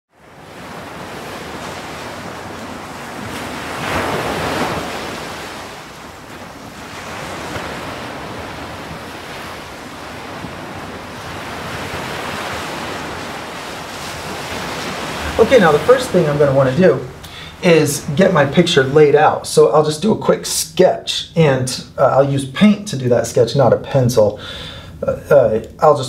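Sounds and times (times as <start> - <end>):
waves breaking: 0.1 - 26.0.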